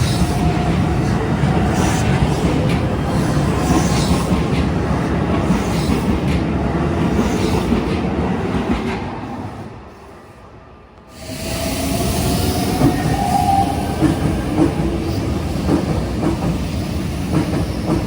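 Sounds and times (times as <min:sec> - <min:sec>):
train wheels rumbling on rails: 0:00.0 - 0:10.2, 0:11.0 - 0:18.0.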